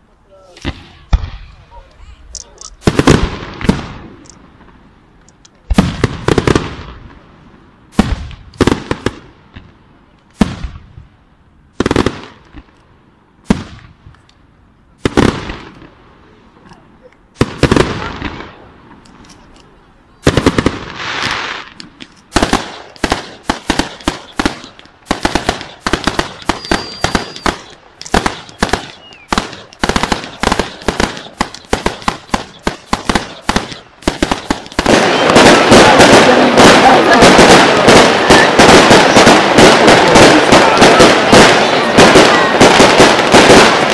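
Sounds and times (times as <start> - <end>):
fireworks bangs and crackling: 0.3 - 19.3, 20.0 - 43.9.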